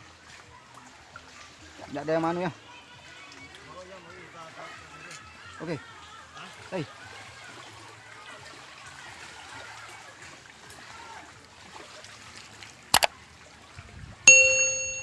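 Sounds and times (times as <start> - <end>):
sea water lapping at shore: 0.0 - 15.0.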